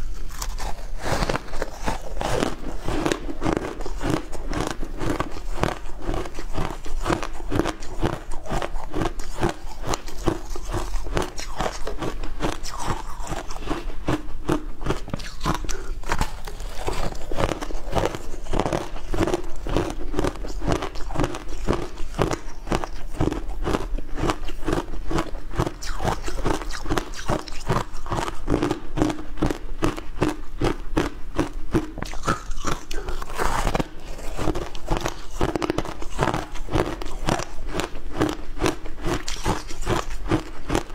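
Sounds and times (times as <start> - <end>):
crunching shaved ice: 0.0 - 40.9.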